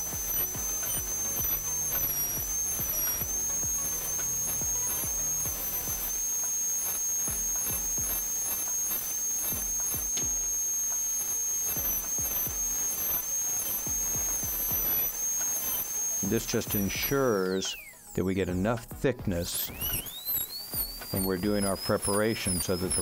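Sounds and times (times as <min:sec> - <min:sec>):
dental drill whining: 0:00.0 - 0:23.0.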